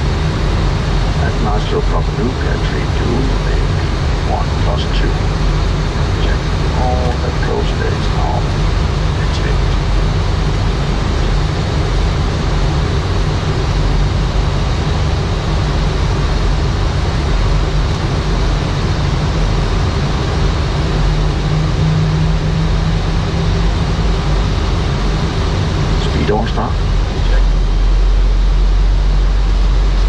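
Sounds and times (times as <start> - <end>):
airflow rush: 0.0 - 30.0
deep constant rumble: 0.0 - 30.0.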